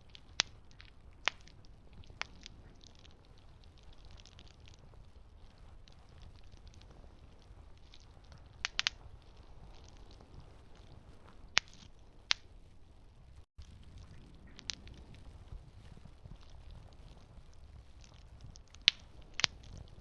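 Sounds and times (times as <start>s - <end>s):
campfire crackling: 0.0s - 20.0s
sharp fire pops: 0.0s - 20.0s.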